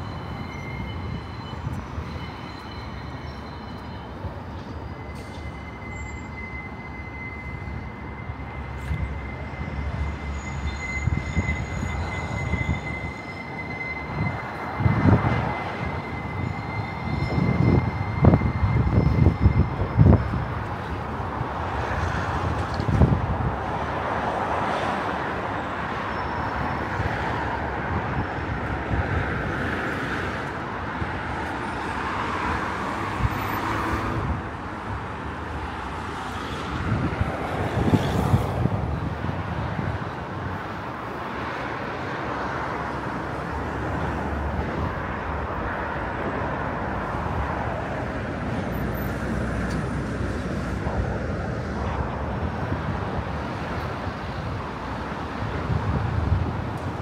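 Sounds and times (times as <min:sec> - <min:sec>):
road traffic going by: 0:00.0 - 0:57.0.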